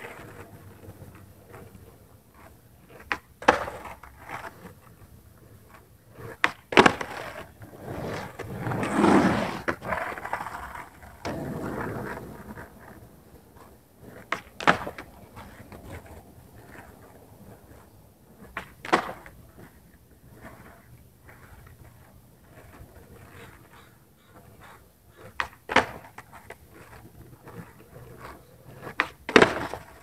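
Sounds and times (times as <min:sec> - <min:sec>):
skateboard clacks: 0:00.0 - 0:30.0
skateboard wheels rolling: 0:00.0 - 0:30.0.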